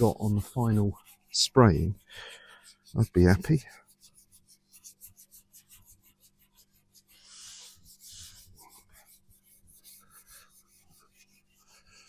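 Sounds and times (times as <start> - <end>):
hand sanding metal panel: 0.0 - 12.0.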